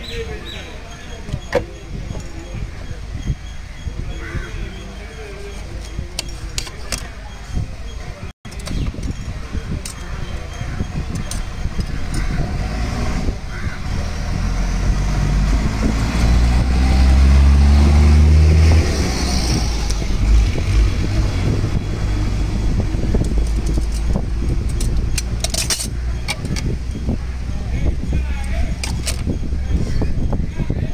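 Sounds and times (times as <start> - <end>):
street noise: 0.0 - 30.9.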